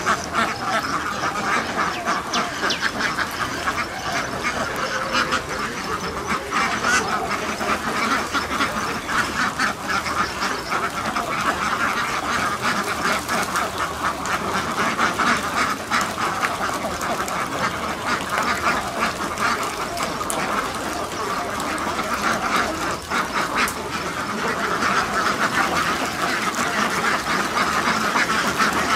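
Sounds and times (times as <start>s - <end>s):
flock of ducks quacking: 0.0s - 28.9s.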